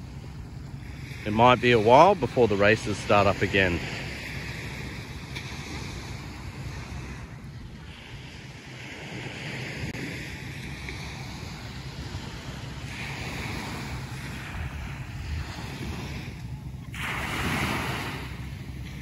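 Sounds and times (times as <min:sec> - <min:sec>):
small surf on sandy beach: 0:00.0 - 0:19.0
wind buffeting microphone: 0:00.0 - 0:19.0.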